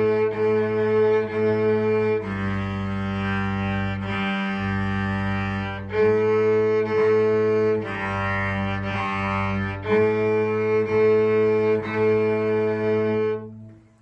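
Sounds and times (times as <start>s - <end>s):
cello bowing notes: 0.0s - 14.0s
violin bowing notes: 0.0s - 14.0s.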